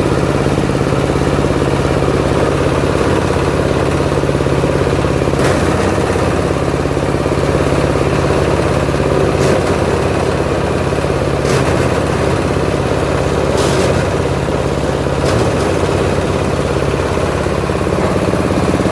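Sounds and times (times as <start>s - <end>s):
grinding machine engine drone: 0.0s - 18.9s.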